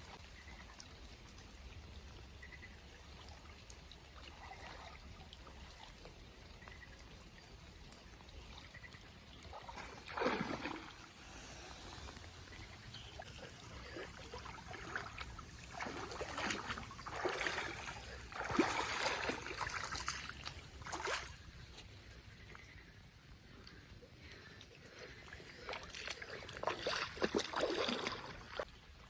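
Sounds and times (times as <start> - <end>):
faint rain patter: 0.0 - 10.1, 10.9 - 26.7
water splashing from swimming: 0.0 - 21.9, 23.7 - 28.7.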